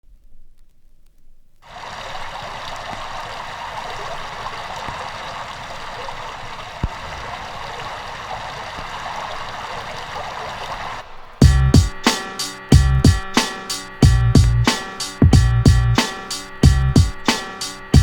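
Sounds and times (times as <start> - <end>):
steady rain falling: 1.6 - 18.0.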